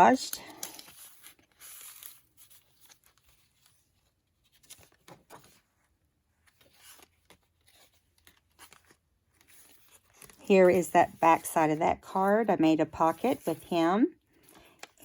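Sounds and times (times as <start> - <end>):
paper and card rustling: 0.0 - 15.0.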